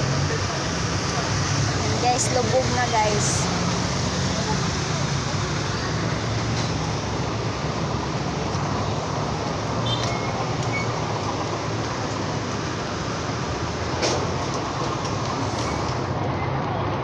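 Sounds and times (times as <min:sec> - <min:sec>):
rushing water: 0:00.0 - 0:17.0
vehicle engines humming: 0:00.0 - 0:17.0.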